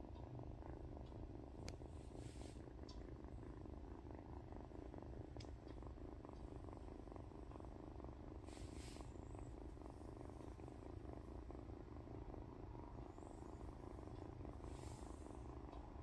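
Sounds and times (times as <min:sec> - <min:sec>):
kitten purring: 0:00.0 - 0:16.0
soft rustle: 0:00.4 - 0:16.0.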